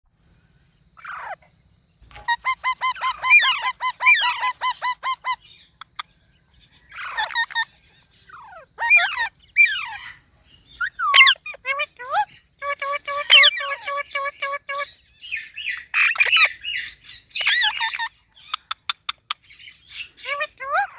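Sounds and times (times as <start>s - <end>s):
parrots squawking: 1.0s - 1.4s, 2.1s - 6.2s, 6.8s - 20.9s.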